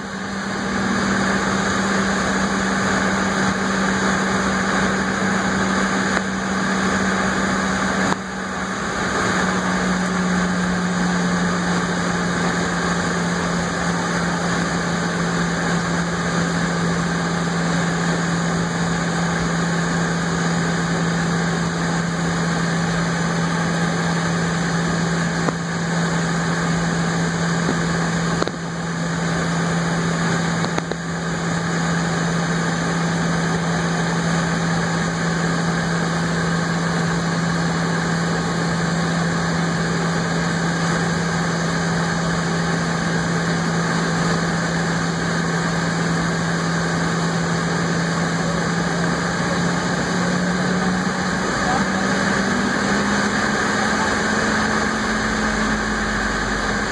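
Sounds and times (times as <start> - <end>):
jet engines idling drone: 0.0 - 56.9.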